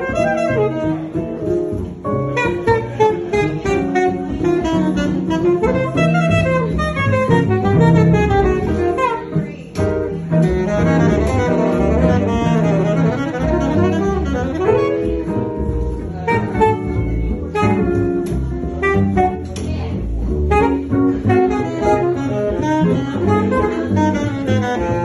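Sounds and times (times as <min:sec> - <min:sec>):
alto saxophone melody: 0:00.0 - 0:09.6, 0:10.2 - 0:19.7, 0:20.3 - 0:25.0
archtop guitar: 0:00.0 - 0:25.0
double bass: 0:00.0 - 0:25.0.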